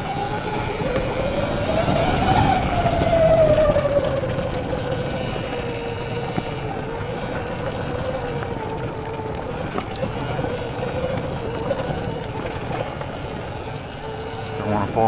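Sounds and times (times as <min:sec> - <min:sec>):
electric motor whining: 0:00.0 - 0:15.0
knobby tyres on trail: 0:00.0 - 0:15.0
wind rumble: 0:00.0 - 0:15.0.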